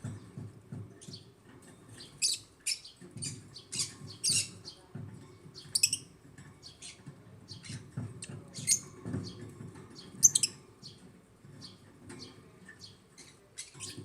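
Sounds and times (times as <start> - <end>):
lovebirds chirping: 0.0 - 14.0.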